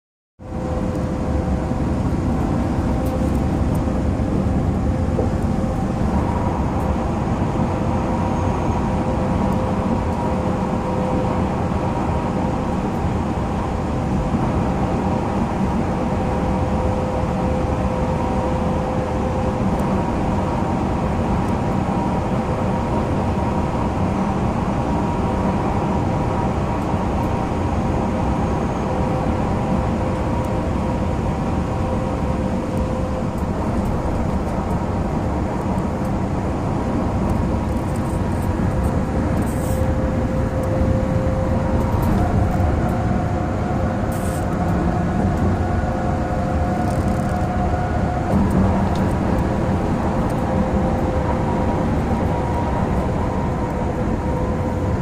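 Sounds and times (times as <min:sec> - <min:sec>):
bus engine and road rumble: 0:00.4 - 0:55.0
faint constant whine: 0:00.4 - 0:55.0.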